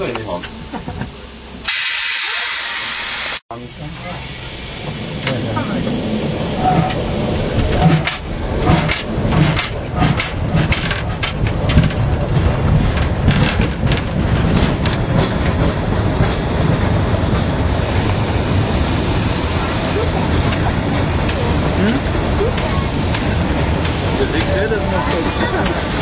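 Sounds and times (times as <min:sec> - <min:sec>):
locomotive rolling rumble: 0:00.0 - 0:01.7, 0:03.5 - 0:26.0
steam locomotive exhaust beats: 0:00.4 - 0:26.0.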